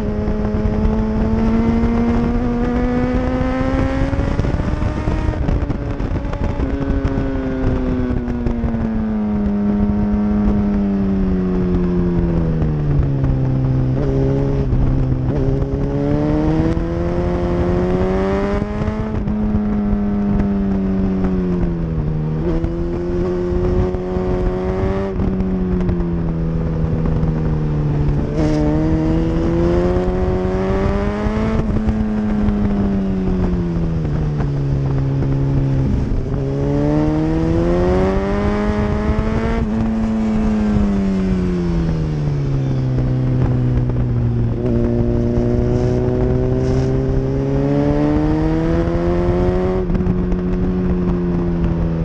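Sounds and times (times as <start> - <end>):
motorcycle engine revving: 0.0 - 52.0
wind buffeting on microphone: 0.0 - 52.0.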